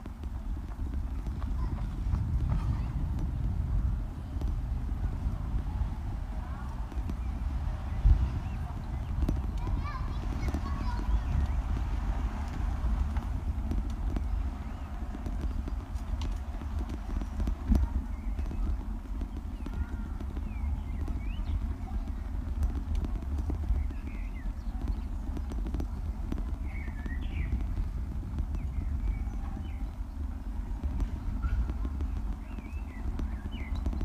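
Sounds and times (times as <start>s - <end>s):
bicycle rattling over cobblestones: 0.0s - 34.0s.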